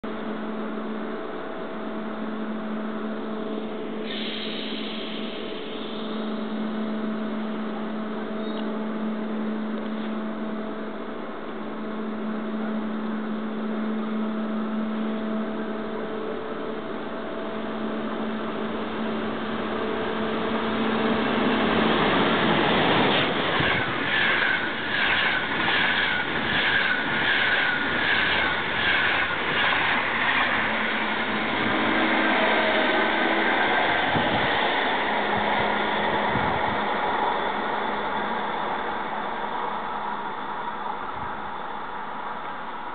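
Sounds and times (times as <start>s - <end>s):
electric train humming: 0.0s - 42.9s
passenger train passing at speed: 0.0s - 42.9s.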